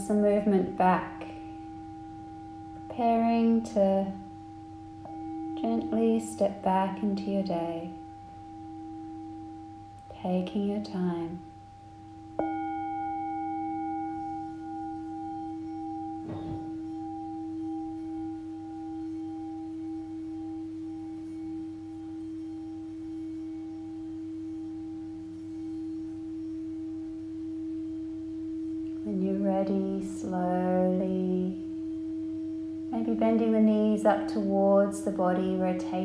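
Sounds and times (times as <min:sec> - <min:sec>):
singing bowl ringing: 0:00.0 - 0:36.0.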